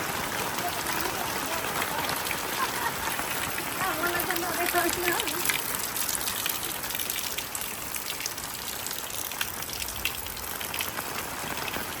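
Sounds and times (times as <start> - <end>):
heavy rain hissing: 0.0 - 12.0
raindrops ticking on surfaces: 0.0 - 12.0.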